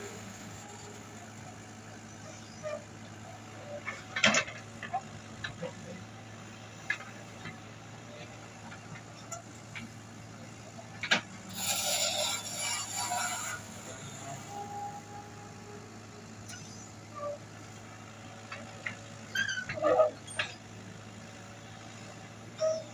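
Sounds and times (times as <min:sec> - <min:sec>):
backhoe engine running: 0:00.0 - 0:22.9.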